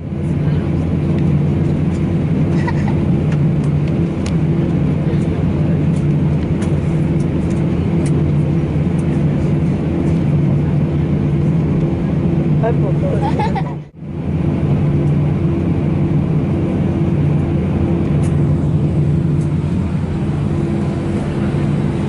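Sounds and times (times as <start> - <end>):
aircraft cabin engine hum: 0.0 - 22.0.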